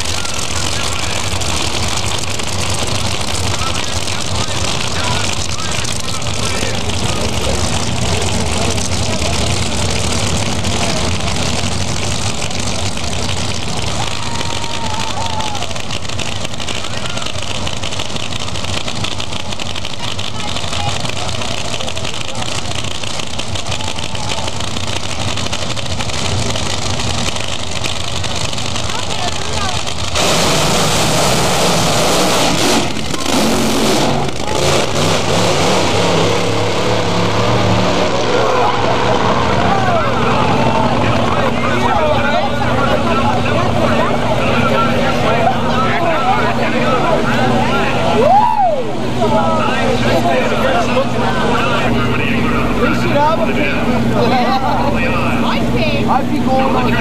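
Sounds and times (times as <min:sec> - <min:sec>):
loud dragster engine idling: 0:00.0 - 0:57.0.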